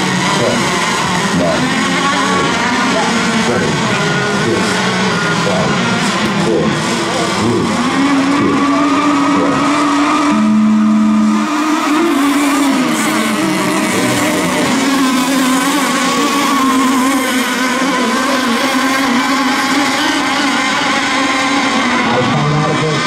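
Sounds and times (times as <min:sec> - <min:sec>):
model boat engines buzzing: 0:00.0 - 0:23.0.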